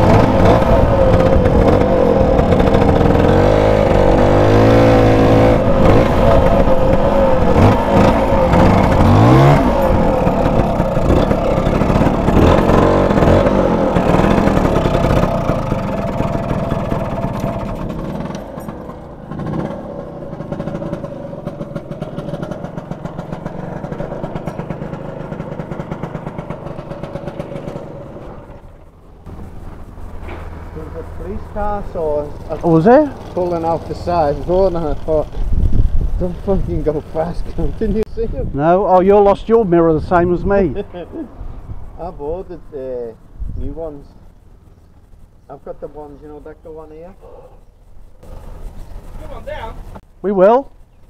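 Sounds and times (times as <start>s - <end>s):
motor scooter engine: 0.0s - 51.0s.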